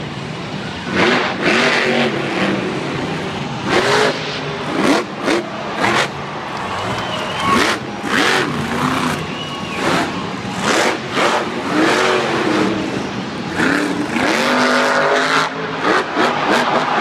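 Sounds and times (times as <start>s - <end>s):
truck engine revving hard: 0.8s - 17.0s.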